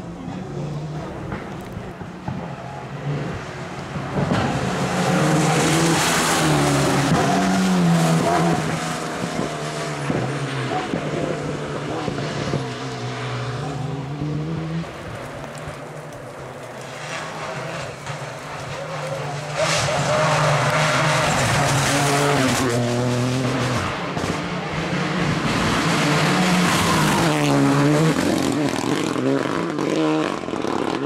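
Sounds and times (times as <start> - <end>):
rally car engines revving: 0.0 - 31.0.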